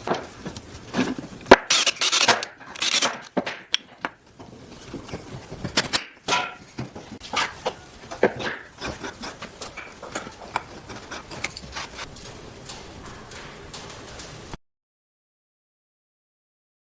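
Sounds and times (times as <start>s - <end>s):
scraping and rubbing wood: 0.0s - 14.6s.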